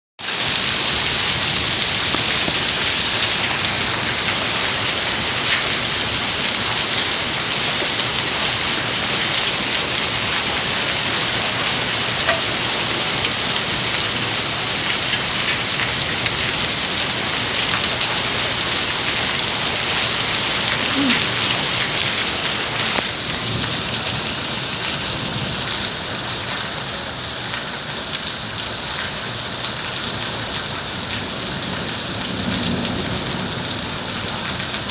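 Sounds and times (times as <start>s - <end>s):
hail and rain pelting down: 0.2s - 34.9s
hailstones ticking: 0.3s - 34.9s.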